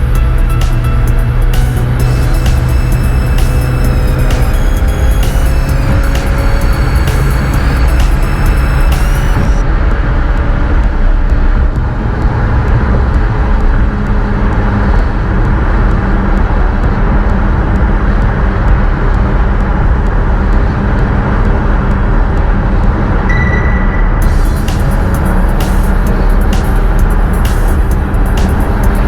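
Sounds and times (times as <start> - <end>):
car engine drone: 0.0 - 29.0
road noise: 0.0 - 29.0.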